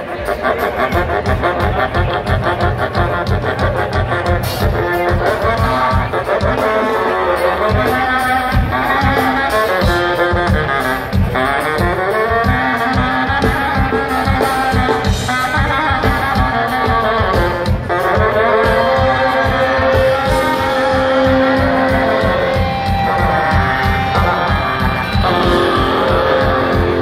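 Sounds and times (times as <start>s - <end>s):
bass: 0.0s - 27.0s
drum beat: 0.0s - 27.0s
live band with horns: 0.0s - 27.0s.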